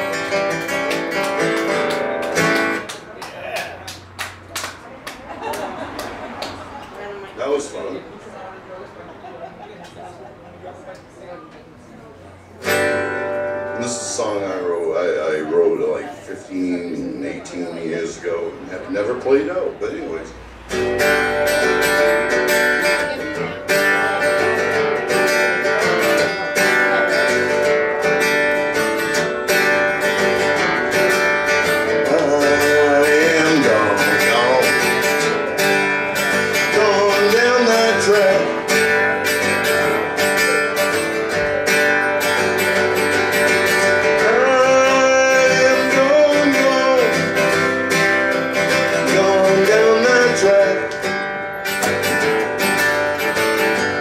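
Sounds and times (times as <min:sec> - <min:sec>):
acoustic guitar strumming: 0:00.0 - 0:03.2, 0:12.5 - 0:54.0.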